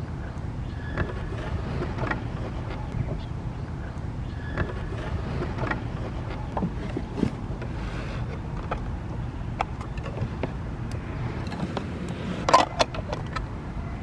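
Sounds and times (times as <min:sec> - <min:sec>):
low wind rumble on microphone: 0:00.0 - 0:14.0.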